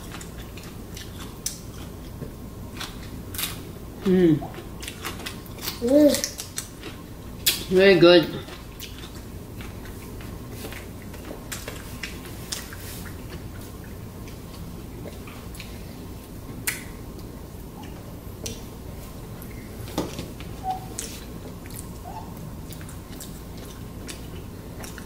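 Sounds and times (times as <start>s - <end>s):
chewing and mouth smacks: 0.0s - 3.6s, 4.5s - 7.7s, 8.4s - 18.7s, 20.9s - 25.0s.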